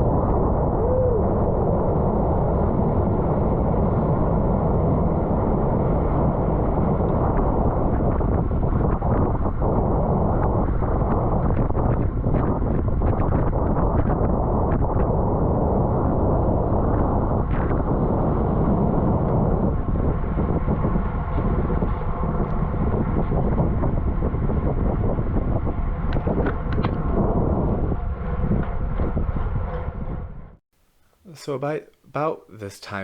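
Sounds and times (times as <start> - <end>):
wind roaring on microphone: 0.0 - 30.6.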